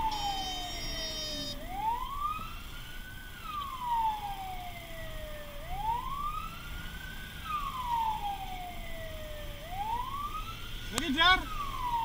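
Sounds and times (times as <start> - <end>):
engine and road rumble: 0.0 - 12.0
siren wailing: 0.0 - 12.0.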